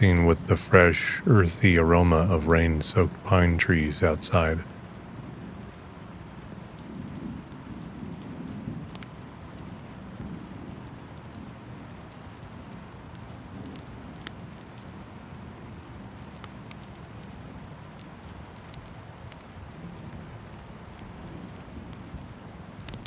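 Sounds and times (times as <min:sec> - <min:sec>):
rain hiss: 0:00.0 - 0:23.0.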